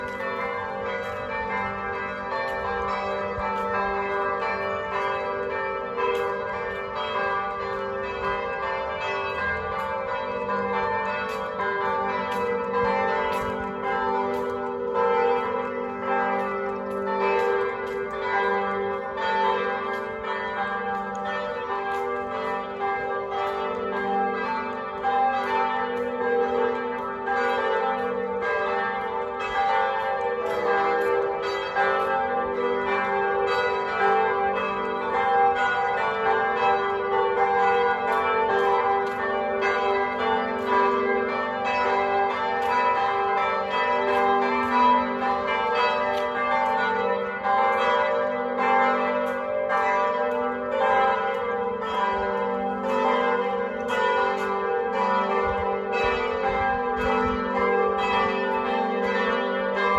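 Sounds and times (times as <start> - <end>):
church bells ringing in a peal: 0.0 - 59.9.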